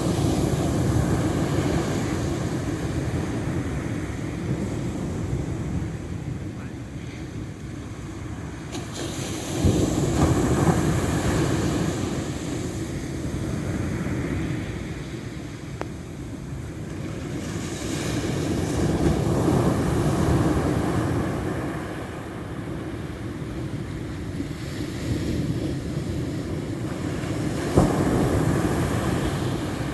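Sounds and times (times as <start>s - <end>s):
waves breaking: 0.0s - 29.9s
wind on microphone: 0.0s - 29.9s.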